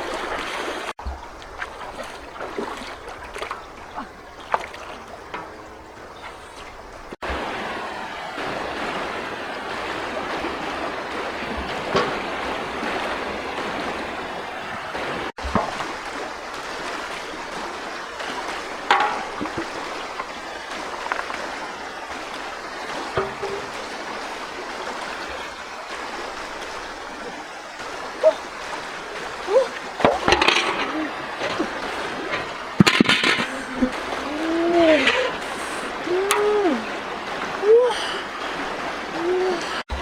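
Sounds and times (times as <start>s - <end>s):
knocks and splashes: 0.0s - 40.0s
stream water rushing: 0.0s - 40.0s.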